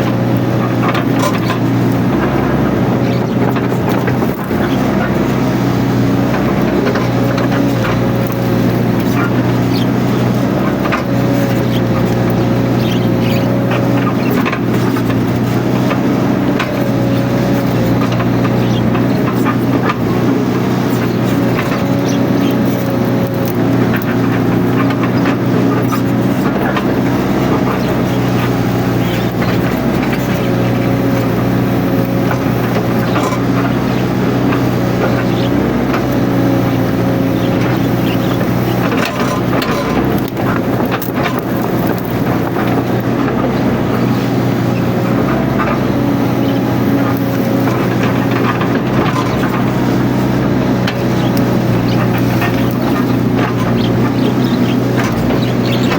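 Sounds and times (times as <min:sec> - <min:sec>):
diesel engine running: 0:00.0 - 0:55.9
hydraulic whine: 0:00.0 - 0:55.9.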